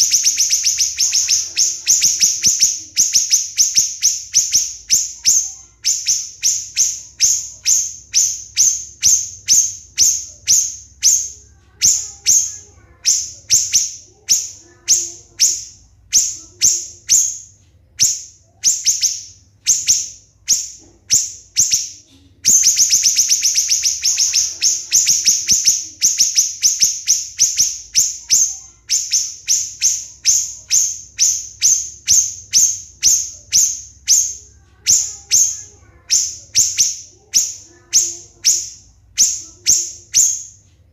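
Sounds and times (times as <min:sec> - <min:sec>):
bird calling high notes: 0:00.0 - 0:17.4, 0:22.5 - 0:40.5.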